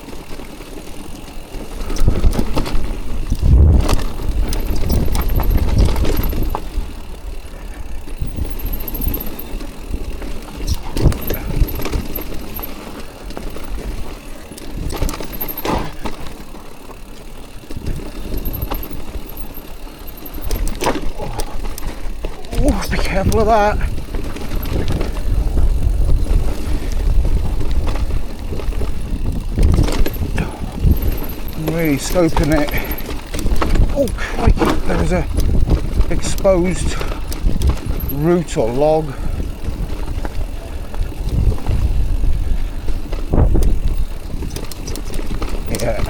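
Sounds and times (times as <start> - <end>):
bike rattling over rough ground: 0.0 - 46.0
bike tyres rumbling on trail: 0.0 - 46.0.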